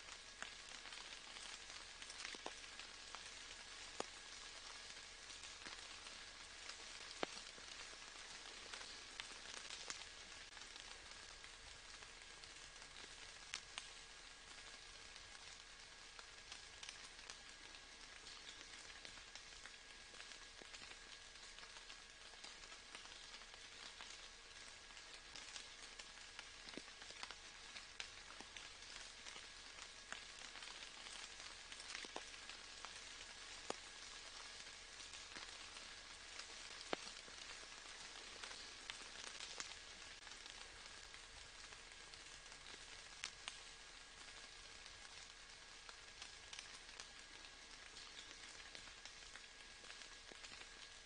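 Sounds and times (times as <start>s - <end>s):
rain falling softly: 0.0s - 51.0s.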